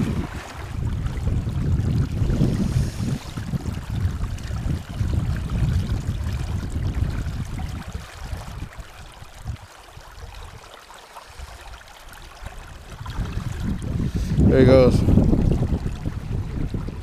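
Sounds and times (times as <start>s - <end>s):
wind buffeting microphone: 0.0s - 10.7s, 11.3s - 17.0s
river water rushing and sloshing: 0.0s - 17.0s.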